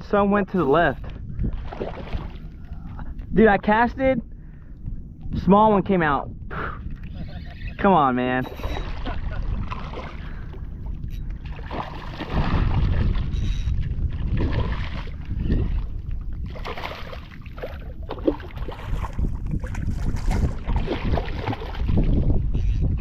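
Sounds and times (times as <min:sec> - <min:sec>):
wind buffeting microphone: 0:00.0 - 0:23.0
water noise: 0:00.4 - 0:05.7, 0:06.3 - 0:23.0.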